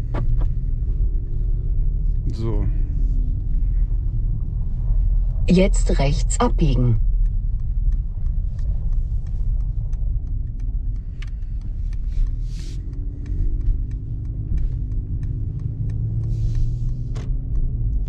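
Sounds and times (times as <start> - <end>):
car engine and tyre rumble: 0.0 - 18.0
steady engine hum: 0.0 - 18.0
turn signal ticking: 0.0 - 18.0.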